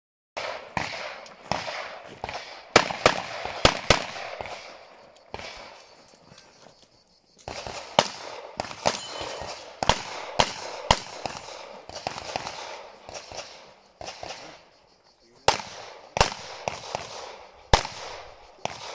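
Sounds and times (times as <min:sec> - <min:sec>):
pistol shots: 0:00.4 - 0:05.8, 0:07.4 - 0:14.7, 0:15.4 - 0:18.9.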